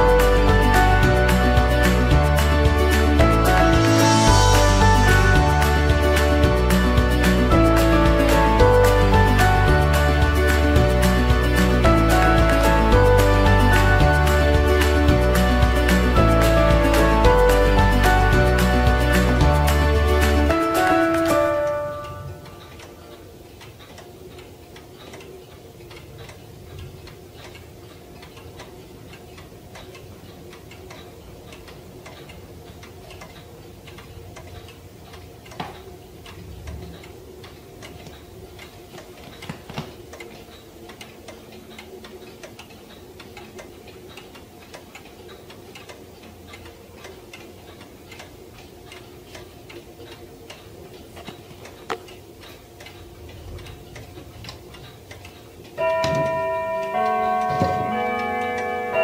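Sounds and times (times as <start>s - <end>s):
pendulum clock ticking: 0.0s - 59.0s.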